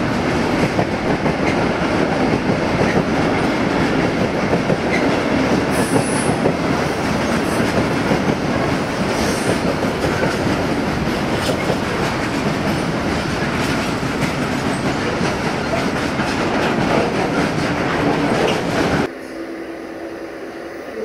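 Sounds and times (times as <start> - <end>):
train wheels clattering over rails: 0.0 - 19.1.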